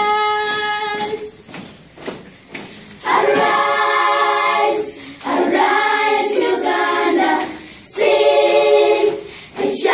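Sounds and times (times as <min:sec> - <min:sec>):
children's choir singing: 0:00.0 - 0:01.5, 0:03.0 - 0:09.9.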